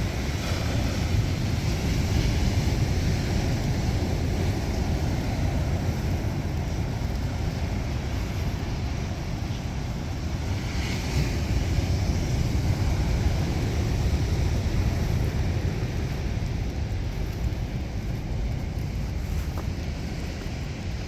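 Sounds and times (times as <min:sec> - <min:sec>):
rough storm surf: 0:00.0 - 0:21.0
strong wind buffeting microphone: 0:00.0 - 0:21.0.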